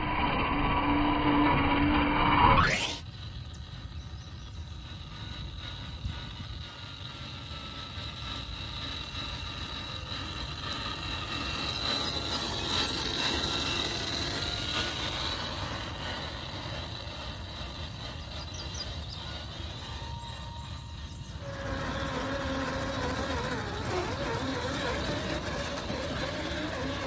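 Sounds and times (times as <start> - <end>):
toy car electric motor whining: 0.6 - 27.0.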